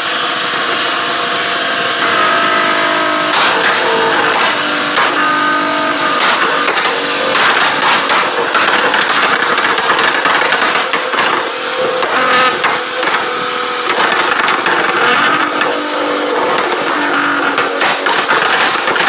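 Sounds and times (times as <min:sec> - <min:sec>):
car engine running loud: 0:00.0 - 0:19.0
exhaust crackling and popping: 0:00.0 - 0:19.0.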